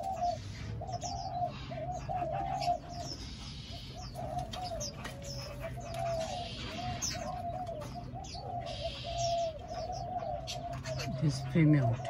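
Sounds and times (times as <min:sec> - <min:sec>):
doves cooing: 0:00.0 - 0:12.0
small birds chirping: 0:00.0 - 0:12.0.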